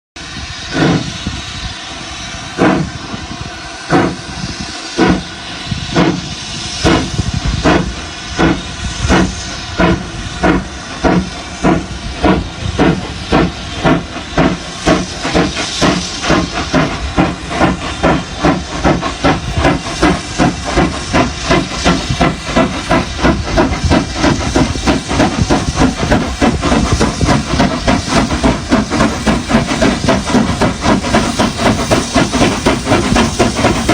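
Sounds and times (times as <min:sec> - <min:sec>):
steam hissing: 0:00.2 - 0:33.9
steam locomotive chuffing: 0:00.2 - 0:33.9.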